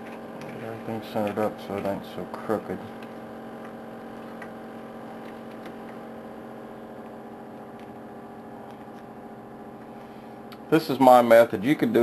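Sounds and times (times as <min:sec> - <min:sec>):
steady pitched hum: 0:00.0 - 0:12.0.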